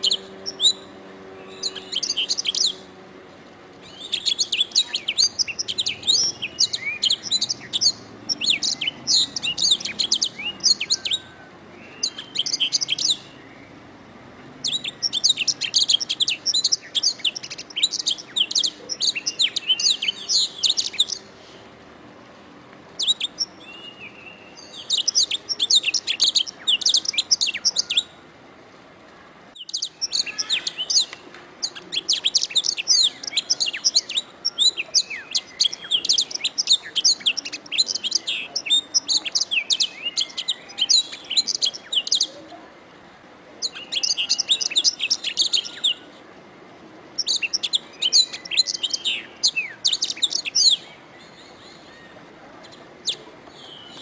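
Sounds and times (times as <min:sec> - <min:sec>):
canary singing chirps and trills: 0:00.0 - 0:21.8, 0:22.9 - 0:28.2, 0:29.5 - 0:42.7, 0:43.6 - 0:46.2, 0:47.1 - 0:54.0.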